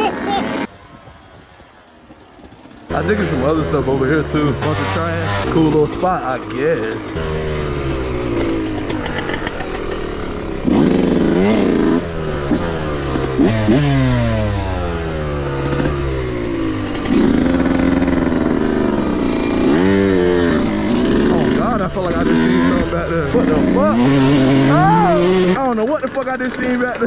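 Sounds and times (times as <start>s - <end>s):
dirt bike engine revving: 2.9s - 26.2s.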